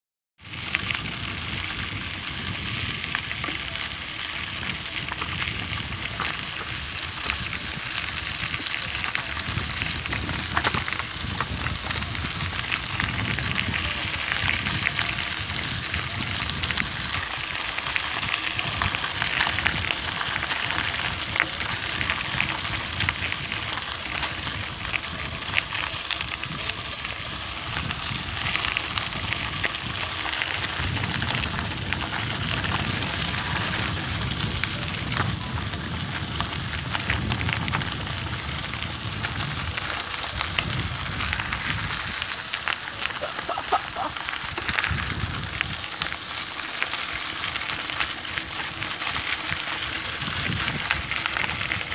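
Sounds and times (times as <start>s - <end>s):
bike tyres crunching on gravel: 0.4s - 51.9s
wind rumble on microphone: 0.4s - 51.9s.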